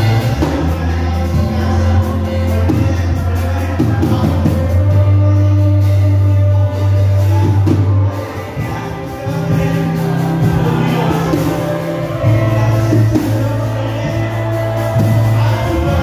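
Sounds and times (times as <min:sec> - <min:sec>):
live worship band playing: 0:00.0 - 0:16.0
person singing: 0:00.0 - 0:16.0.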